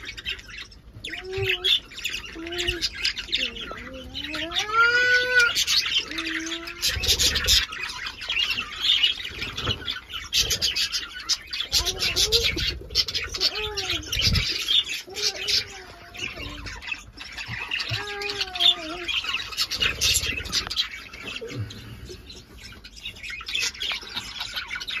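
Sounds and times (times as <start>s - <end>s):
budgerigars chattering and chirping: 0.0s - 25.0s.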